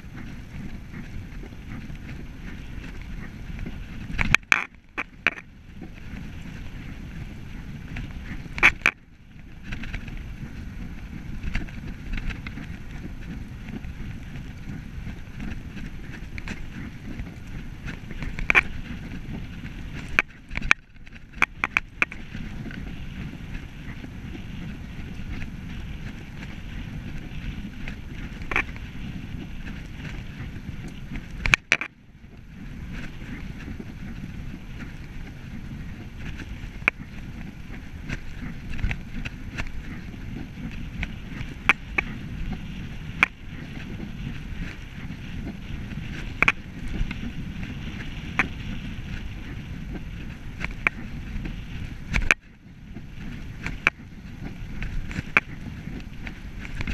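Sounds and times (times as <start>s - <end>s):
bicycle tyres rumbling on tarmac: 0.0s - 56.9s
bike clicks and rattles: 0.0s - 56.9s
wind on microphone: 0.0s - 56.9s.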